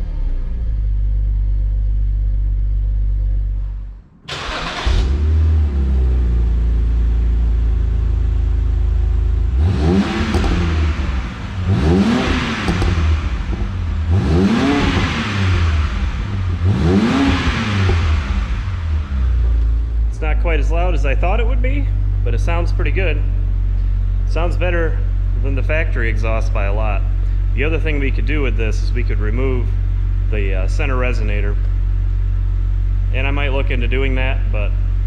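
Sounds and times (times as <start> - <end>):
car exhaust idling and revving: 0.0 - 35.0.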